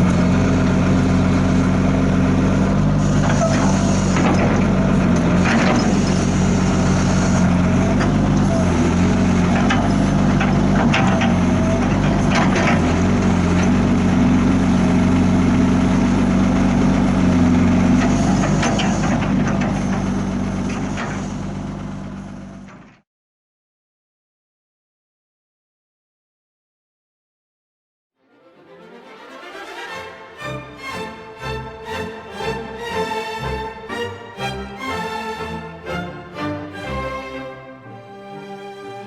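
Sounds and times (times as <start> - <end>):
excavator diesel engine running: 0.0 - 23.0, 29.8 - 38.5.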